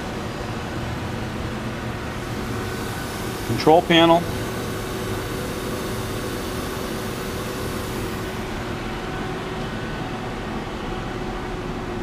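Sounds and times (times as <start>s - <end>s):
machine equipment hum: 0.0s - 12.0s.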